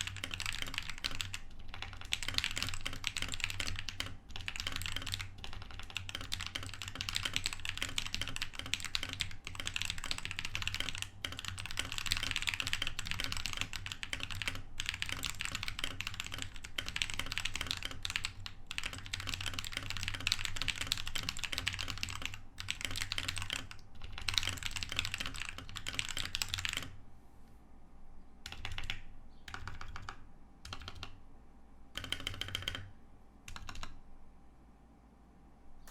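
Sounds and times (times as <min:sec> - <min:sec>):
mechanical keyboard typing: 0:00.0 - 0:27.0, 0:28.4 - 0:31.2, 0:31.9 - 0:32.9, 0:33.5 - 0:34.0.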